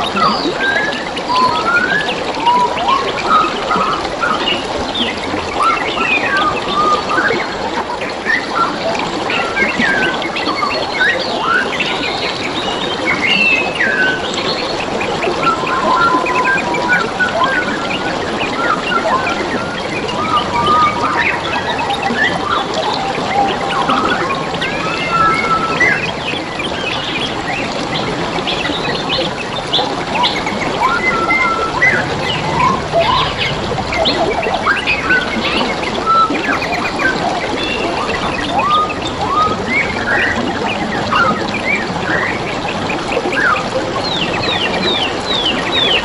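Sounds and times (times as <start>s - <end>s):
birds chirping and whistling: 0.0s - 46.0s
water trickling and flowing: 0.0s - 46.0s.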